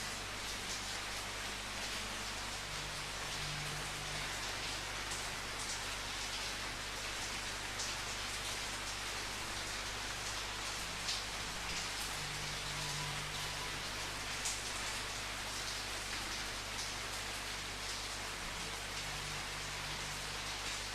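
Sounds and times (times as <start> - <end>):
rain falling: 0.0 - 20.9.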